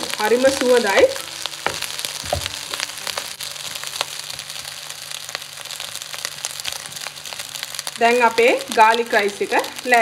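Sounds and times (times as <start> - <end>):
rice sizzling in a pan: 0.0 - 10.0.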